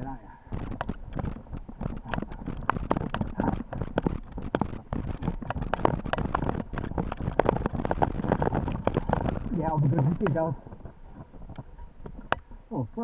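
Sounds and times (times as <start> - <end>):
scooter clattering on dirt trail: 0.0 - 12.7
tyres rumbling: 0.0 - 13.0
wind: 0.0 - 13.0.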